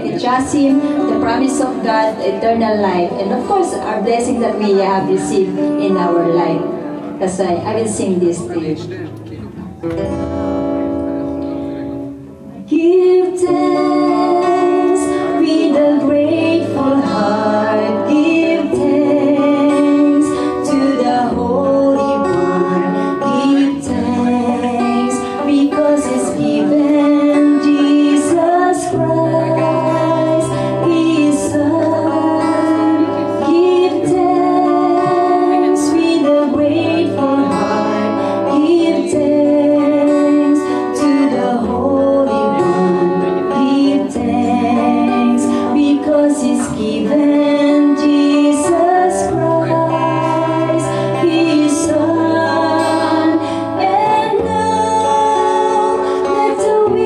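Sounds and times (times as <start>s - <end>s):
woman singing: 0.0s - 8.6s, 12.6s - 57.0s
strummed guitar: 0.0s - 57.0s.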